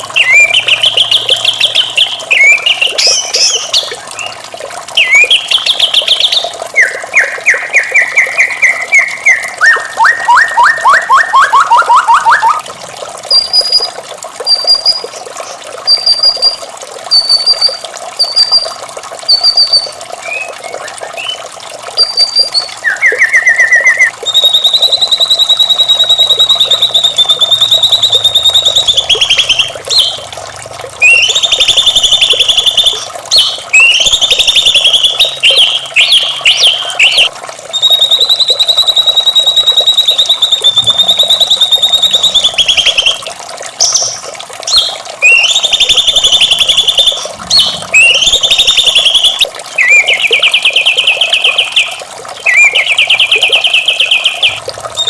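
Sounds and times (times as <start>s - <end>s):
bird singing trilled phrases: 0.0s - 4.4s, 5.0s - 12.6s, 13.3s - 30.3s, 31.0s - 43.2s, 43.8s - 55.0s.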